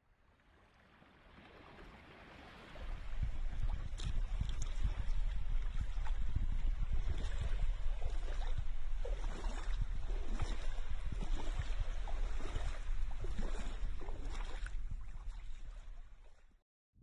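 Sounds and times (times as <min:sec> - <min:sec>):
water sloshing and lapping: 0:00.1 - 0:16.6
small water splashes: 0:00.3 - 0:16.6
wind rumbling on microphone: 0:01.7 - 0:16.4.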